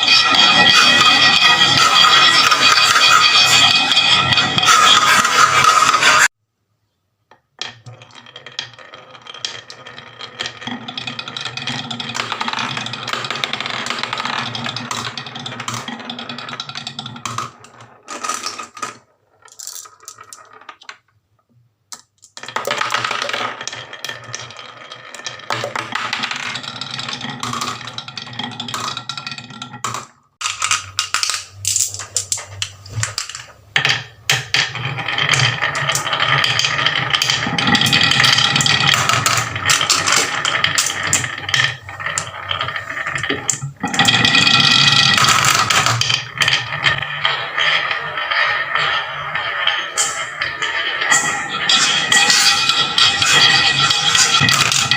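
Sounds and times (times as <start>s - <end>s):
marbles rattling down a wooden run: 0.0s - 6.3s, 7.6s - 21.1s, 21.9s - 54.9s.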